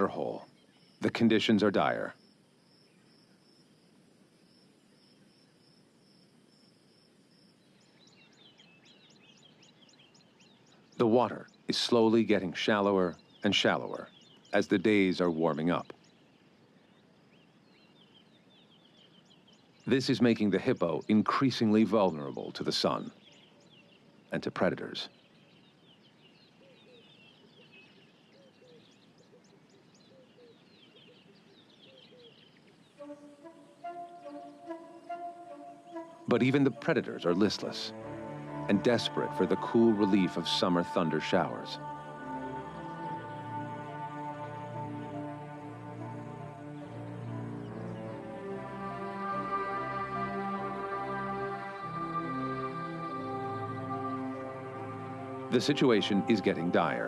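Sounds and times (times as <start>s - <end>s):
insect chirping: 0.0s - 57.0s
soft steady hiss: 0.0s - 57.0s.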